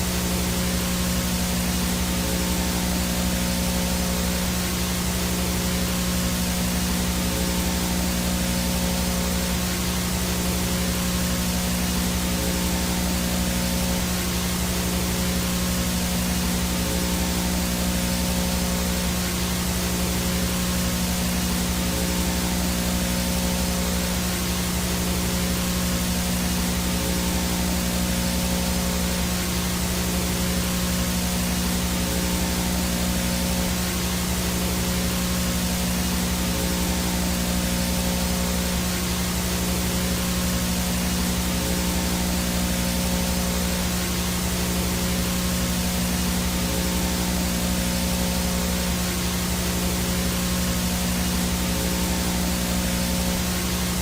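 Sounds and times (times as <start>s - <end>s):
low electrical hum and buzz: 0.0s - 54.0s
video static hiss: 0.0s - 54.0s.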